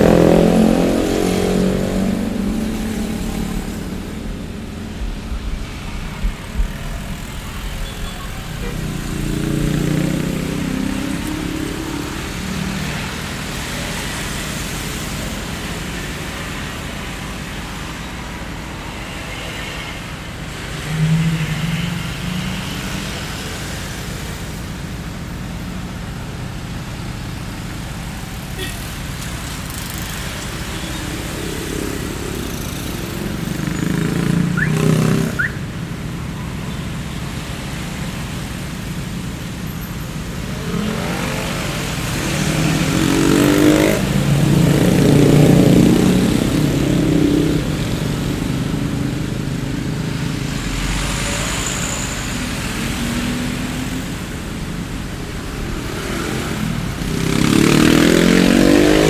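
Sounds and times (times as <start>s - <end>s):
roadway hum: 0.0s - 59.0s
vehicles passing: 0.0s - 59.0s.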